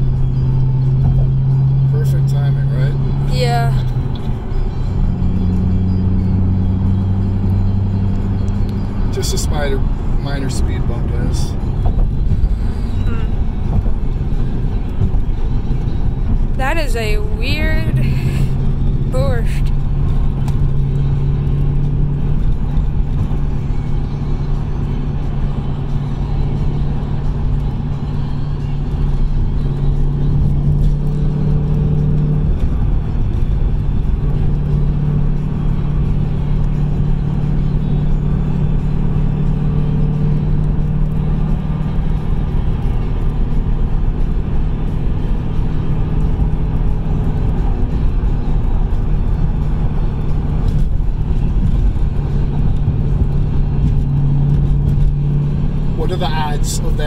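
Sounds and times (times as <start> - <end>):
car engine hum: 0.0 - 57.0
low road rumble: 0.0 - 57.0.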